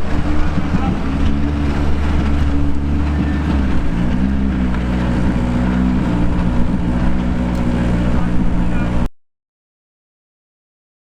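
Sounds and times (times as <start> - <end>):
race car engine running: 0.0 - 9.1.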